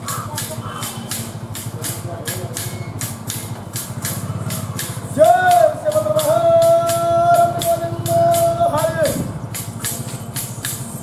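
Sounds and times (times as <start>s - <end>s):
wooden clappers clacking: 0.0s - 11.0s.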